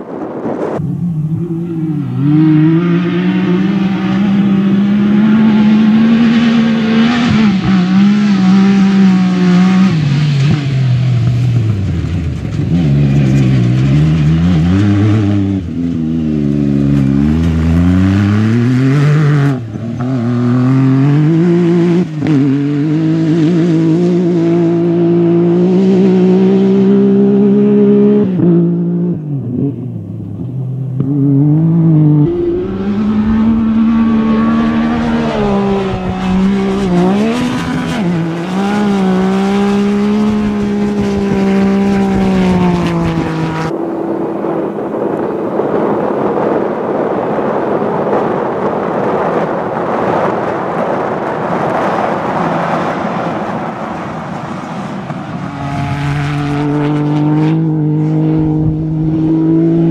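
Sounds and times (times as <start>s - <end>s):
buggy engine revving: 0.8s - 53.7s, 55.1s - 59.9s.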